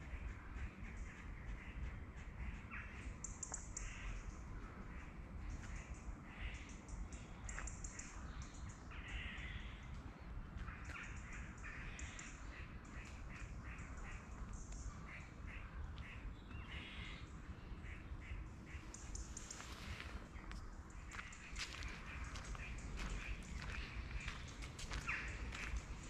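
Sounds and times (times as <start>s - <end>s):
birds calling: 0.0s - 26.0s
steady low rumble: 0.0s - 26.0s.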